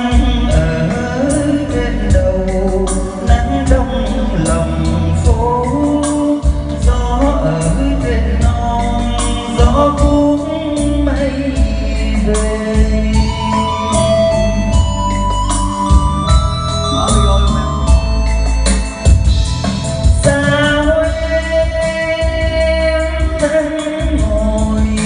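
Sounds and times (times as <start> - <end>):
man singing into microphone: 0.0 - 18.1, 20.0 - 25.0
backing track with heavy bass: 0.0 - 25.0.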